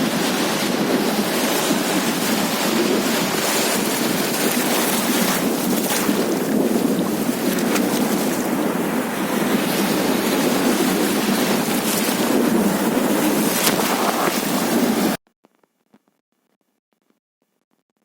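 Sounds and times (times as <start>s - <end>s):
sea waves breaking on beach: 0.0s - 15.2s
wind buffeting microphone: 0.0s - 15.2s.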